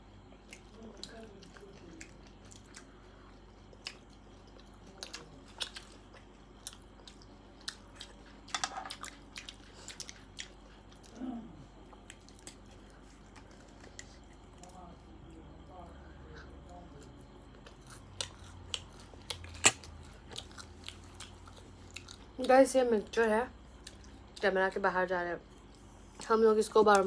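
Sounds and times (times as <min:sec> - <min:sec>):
chewing and crunching: 0:00.2 - 0:27.0.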